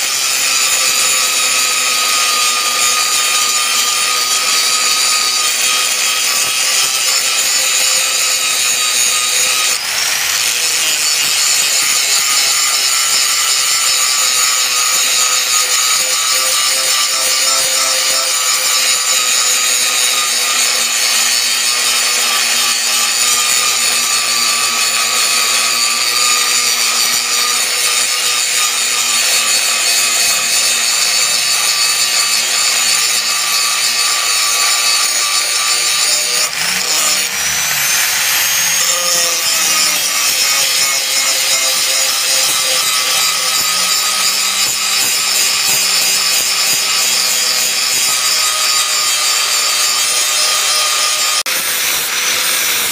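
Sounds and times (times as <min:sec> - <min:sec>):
angle grinder grinding steel: 0:00.0 - 0:52.9.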